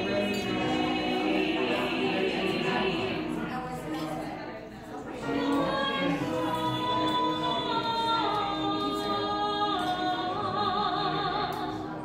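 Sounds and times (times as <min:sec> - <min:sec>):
man and woman singing duet: 0:00.0 - 0:03.5, 0:05.2 - 0:12.0.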